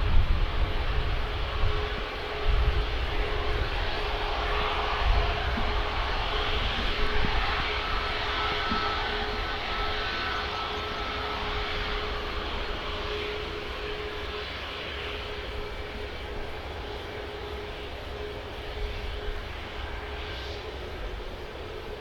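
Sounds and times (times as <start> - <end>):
airliner engines rumbling and whining: 0.0 - 22.0.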